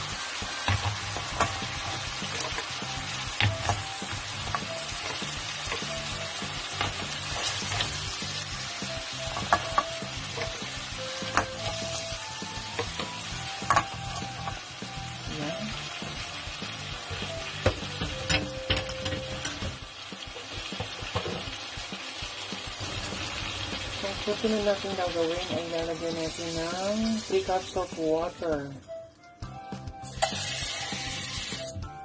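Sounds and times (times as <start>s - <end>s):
clams sizzling in oil: 0.0s - 28.5s, 30.0s - 31.8s.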